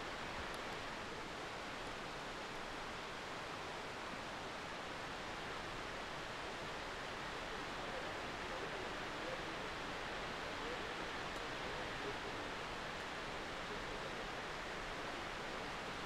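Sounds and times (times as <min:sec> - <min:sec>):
waterfall rushing down rock: 0:00.0 - 0:16.0.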